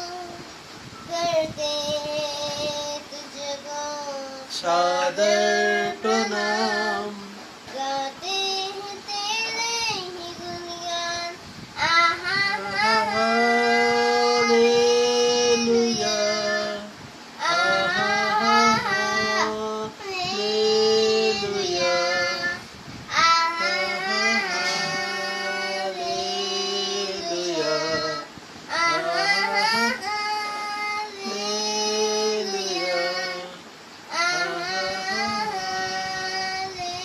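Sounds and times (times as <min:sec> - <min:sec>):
boy singing: 0:00.0 - 0:37.0.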